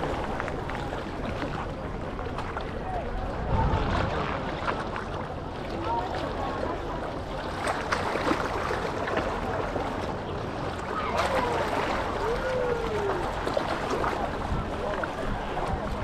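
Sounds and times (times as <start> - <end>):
distant voices: 0.0 - 16.0
water splashing at shore: 0.0 - 16.0.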